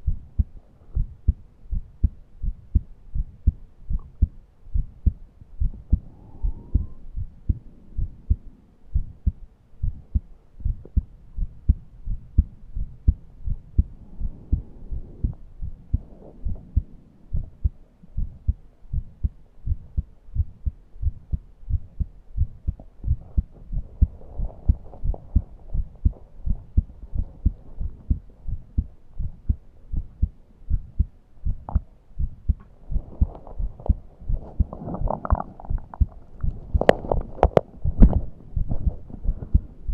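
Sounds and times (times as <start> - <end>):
heart beating: 0.0 - 39.9.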